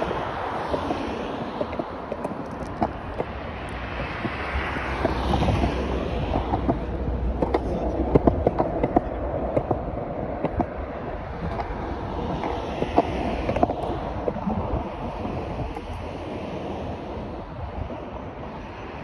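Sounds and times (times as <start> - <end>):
road traffic passing: 0.0 - 19.0
wind rumbling on microphone: 0.0 - 19.0.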